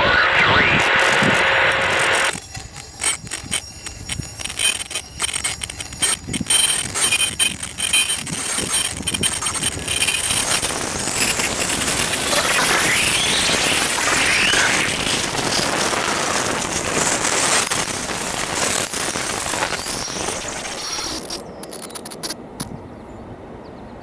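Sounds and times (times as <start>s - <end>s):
high wheel squeals: 2.3s - 22.4s.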